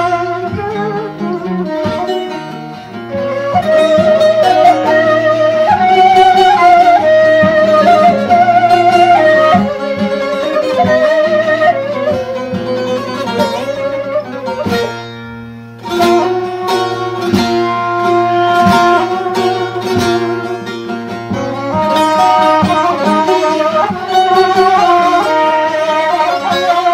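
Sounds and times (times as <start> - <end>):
plucked string notes: 0.0 - 26.9
wavering melody: 0.0 - 26.9.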